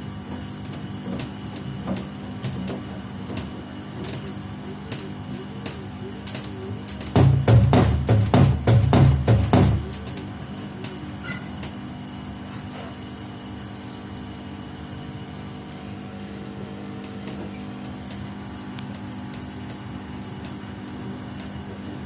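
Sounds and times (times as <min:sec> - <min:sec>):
washing machine humming: 0:00.0 - 0:22.0.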